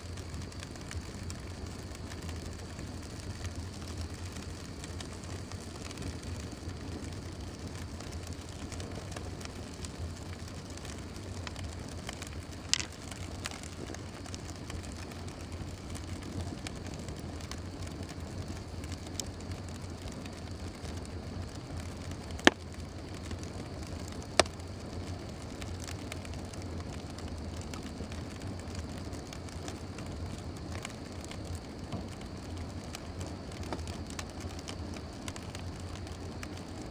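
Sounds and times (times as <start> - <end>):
fire hissing and crackling: 0.0 - 36.9
fire popping: 0.0 - 36.9
low steady rumble: 0.0 - 36.9.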